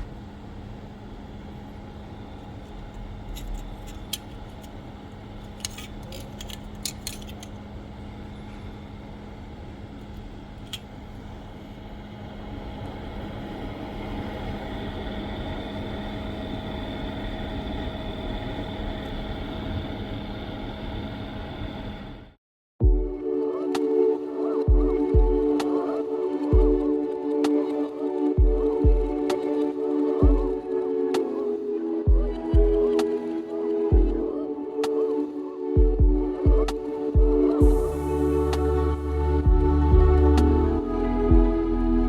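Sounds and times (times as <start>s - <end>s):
electrical hum: 0.0s - 42.0s
faint high whine: 0.0s - 42.0s.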